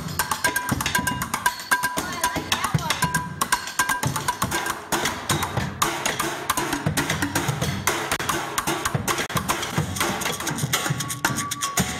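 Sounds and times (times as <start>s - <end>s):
hand-played percussion: 0.0s - 11.9s.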